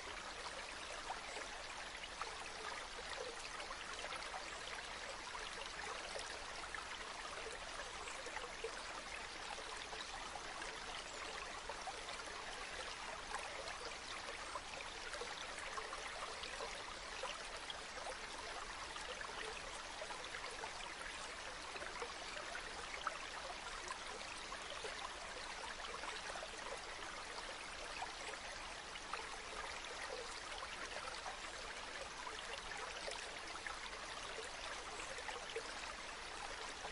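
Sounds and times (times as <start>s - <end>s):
fountain water trickling: 0.0s - 36.9s.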